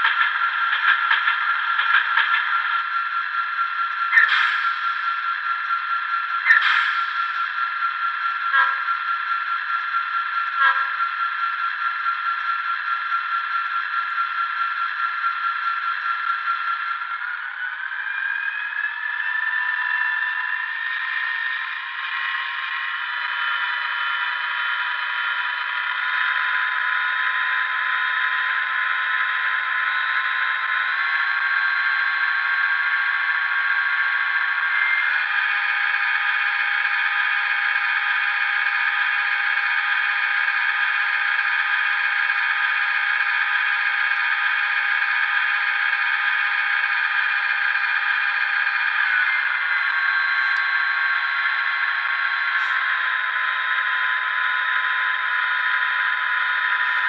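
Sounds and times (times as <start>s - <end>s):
diesel engine sound through small speaker: 0.0s - 57.0s.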